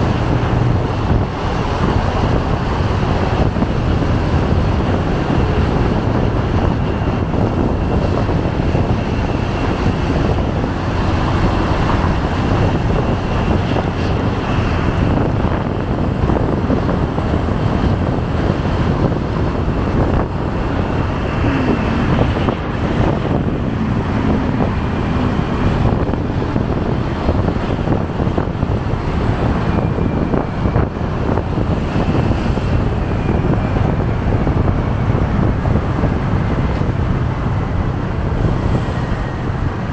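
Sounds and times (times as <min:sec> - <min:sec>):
surrounding traffic noise: 0:00.0 - 0:39.9
wind rushing over microphone: 0:00.0 - 0:39.9.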